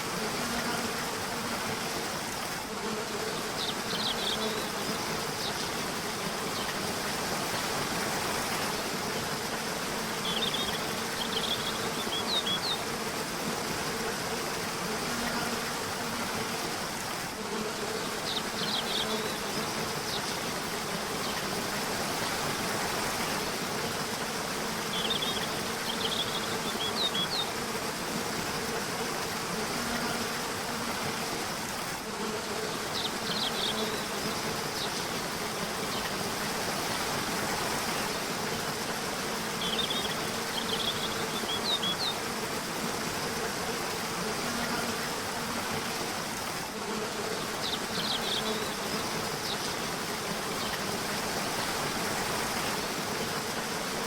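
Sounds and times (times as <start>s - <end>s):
water rushing: 0.0s - 32.1s, 32.7s - 54.0s.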